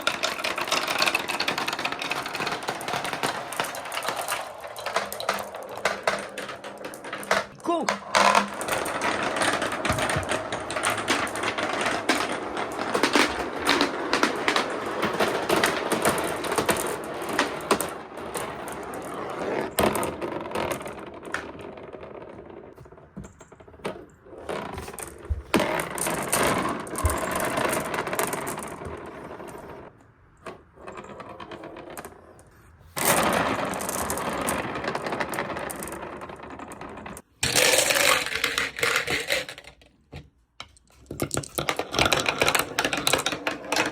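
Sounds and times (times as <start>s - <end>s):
marbles rolling and clattering: 0.0s - 43.9s.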